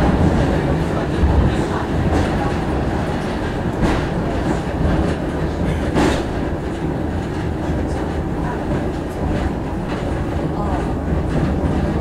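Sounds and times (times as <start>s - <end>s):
cable car rumbling on rails: 0.0s - 12.0s.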